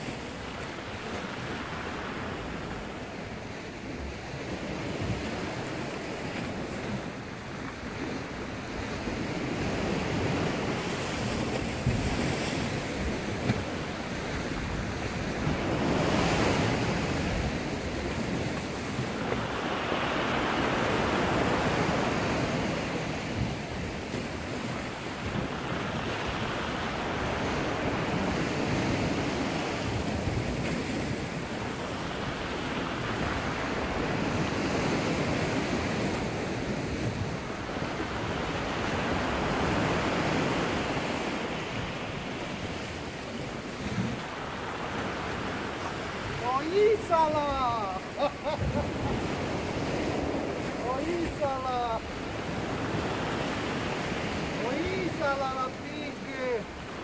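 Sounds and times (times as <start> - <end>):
rough sea breaking against rocks: 0.0 - 57.0.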